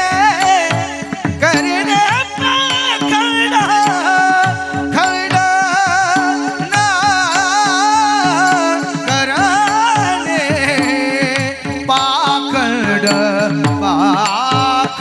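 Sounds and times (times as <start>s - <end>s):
man singing wordless melody: 0.0s - 15.0s.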